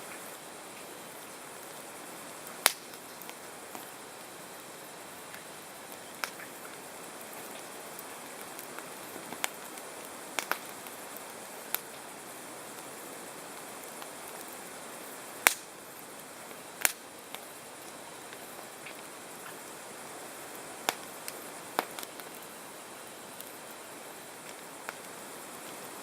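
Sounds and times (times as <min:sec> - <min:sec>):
campfire hissing: 0:00.0 - 0:26.0
wood crackling and popping: 0:00.0 - 0:26.0.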